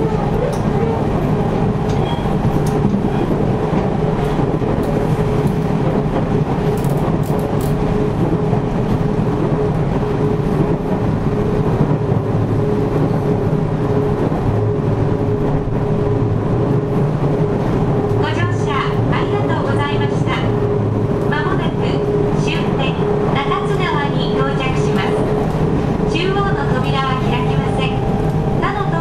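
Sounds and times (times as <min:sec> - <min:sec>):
steady train motor hum: 0:00.0 - 0:29.0
train wheels rumbling on rail: 0:00.0 - 0:29.0.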